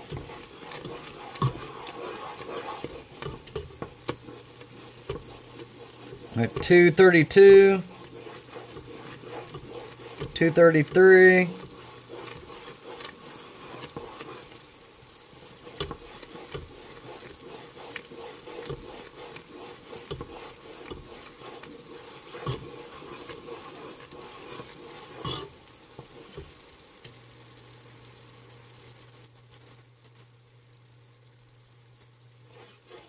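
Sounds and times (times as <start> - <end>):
low steady hum: 0.0 - 33.0
syrup boiling: 0.0 - 33.0.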